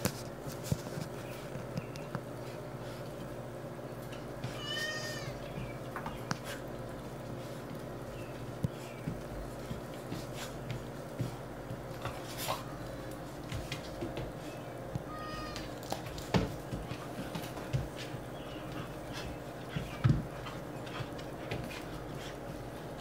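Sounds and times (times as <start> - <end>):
paws tapping on tiled floor: 0.0 - 23.0
light scuffling: 4.0 - 23.0.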